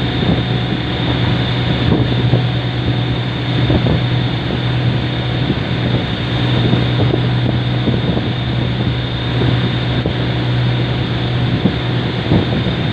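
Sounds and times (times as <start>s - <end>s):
boat engine humming: 0.0s - 12.9s
water rushing past hull: 0.0s - 12.9s
wind buffeting microphone: 0.0s - 12.9s.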